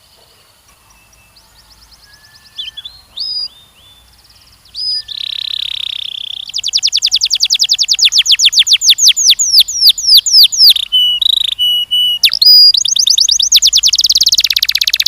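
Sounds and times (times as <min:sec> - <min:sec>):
canary singing: 0:00.8 - 0:15.0.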